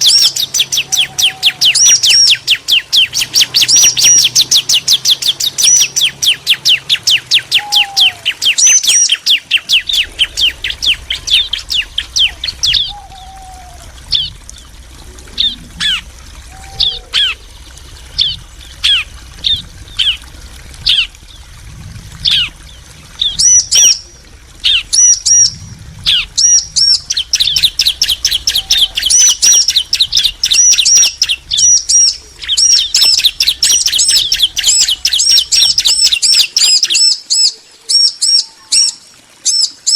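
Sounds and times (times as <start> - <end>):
birds chirping trills: 0.0 - 39.9.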